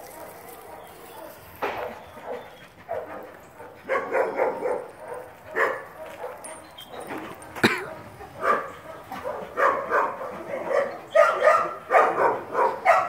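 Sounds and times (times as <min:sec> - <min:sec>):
dog barking: 0:00.0 - 0:13.0.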